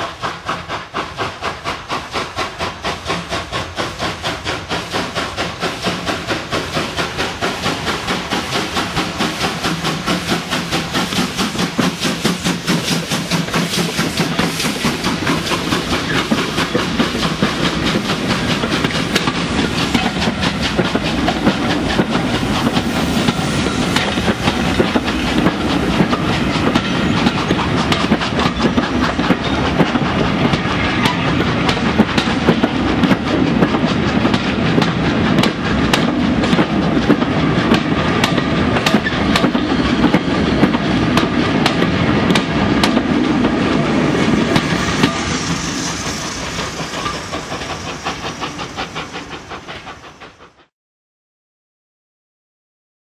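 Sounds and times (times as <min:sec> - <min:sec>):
train wheels clickety-clack: 0:00.0 - 0:50.7.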